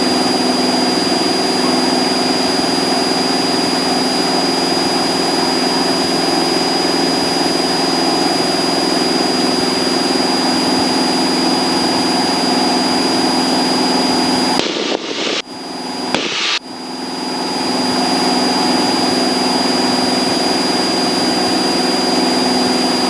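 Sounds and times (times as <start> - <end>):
propeller plane engine droning: 0.0 - 23.0
thin high whine: 0.0 - 23.0.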